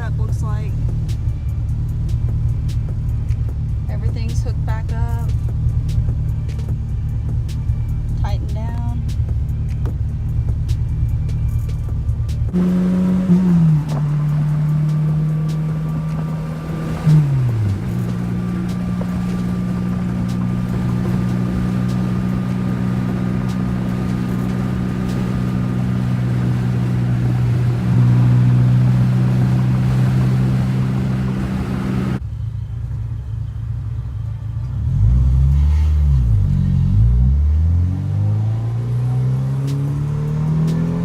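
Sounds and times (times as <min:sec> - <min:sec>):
car engine running while driving: 0:00.0 - 0:41.0.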